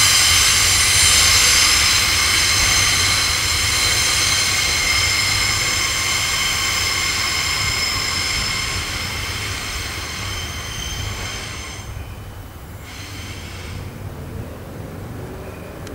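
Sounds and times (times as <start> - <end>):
train wheels squealing on a curve: 0.0 - 14.1.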